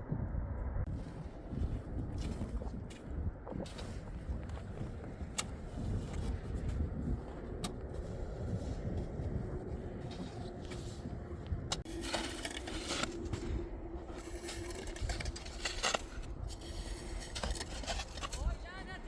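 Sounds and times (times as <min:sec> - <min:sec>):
steady low hum: 0:00.0 - 0:19.0
wind rumbling on microphone: 0:00.0 - 0:19.0.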